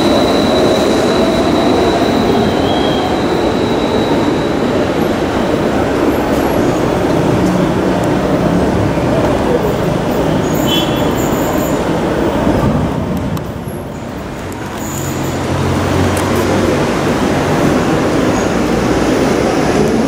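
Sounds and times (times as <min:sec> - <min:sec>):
distant electric train hum: 0:00.0 - 0:20.0
rumble of traffic: 0:00.0 - 0:20.0.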